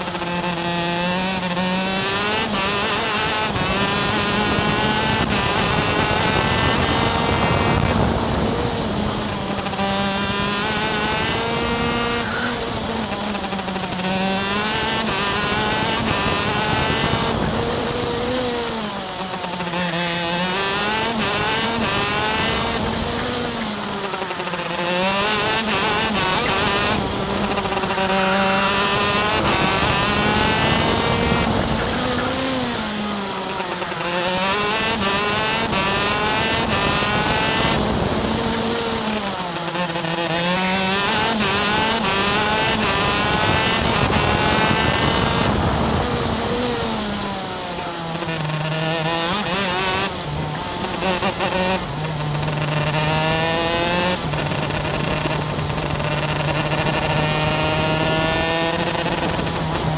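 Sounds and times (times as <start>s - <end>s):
racing kart engine revving: 0.0s - 59.9s.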